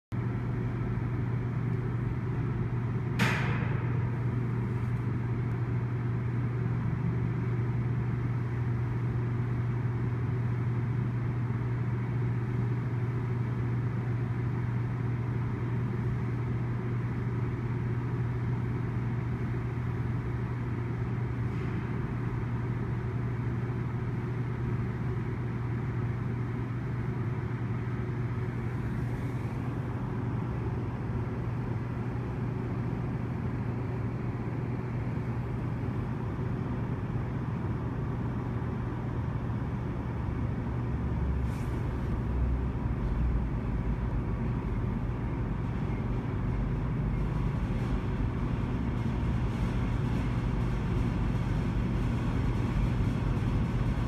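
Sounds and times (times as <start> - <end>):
steady low hum: 0.1 - 54.0.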